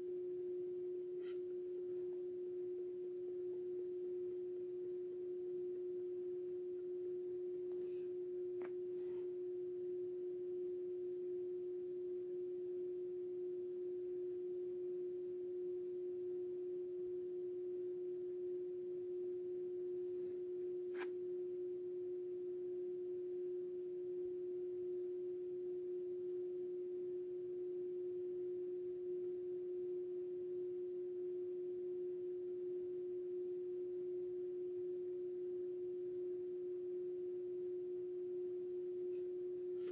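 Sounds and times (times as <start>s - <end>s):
steady hum-like whine: 0.0s - 39.9s.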